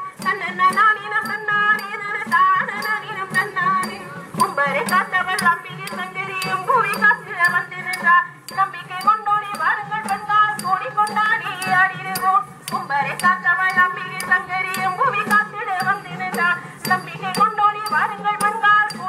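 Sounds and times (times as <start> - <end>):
drum beat: 0.0 - 19.0
women singing folk song: 0.0 - 19.0.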